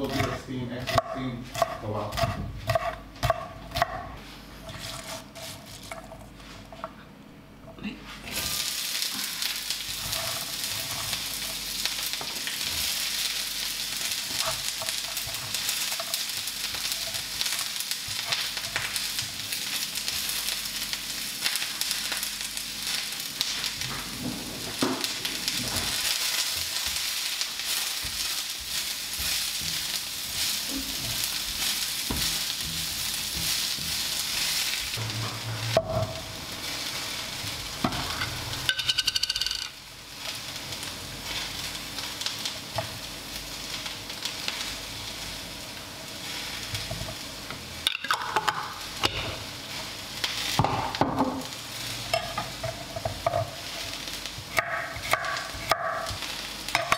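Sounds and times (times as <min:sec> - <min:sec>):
food sizzling in hot oil: 0:08.3 - 0:56.9.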